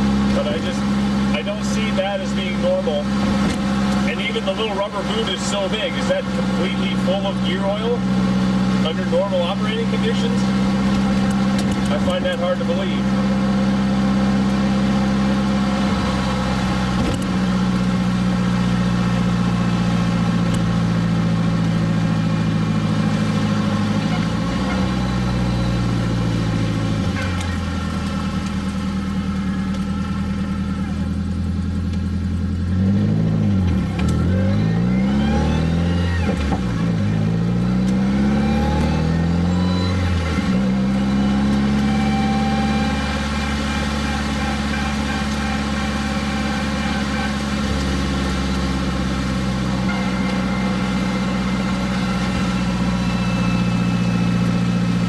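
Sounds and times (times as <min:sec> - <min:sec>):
pickup truck engine running: 0:00.0 - 0:55.0.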